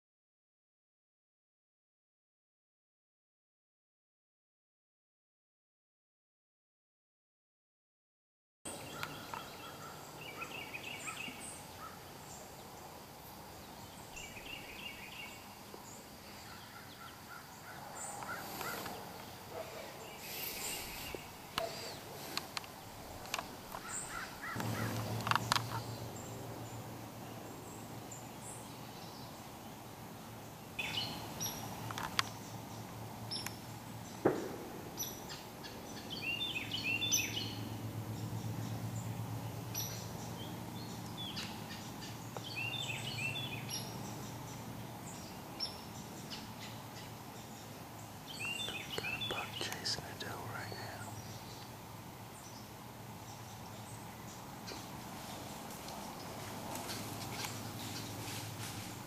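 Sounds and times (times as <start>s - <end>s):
birds chirping: 8.7s - 59.0s.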